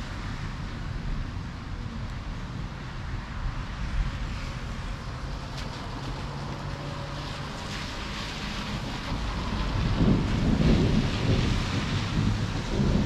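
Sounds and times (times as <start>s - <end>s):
steady rain: 0.0s - 13.0s
tyres hissing on wet road: 0.0s - 13.0s
wind: 0.0s - 13.0s
car engine hum: 0.1s - 13.0s.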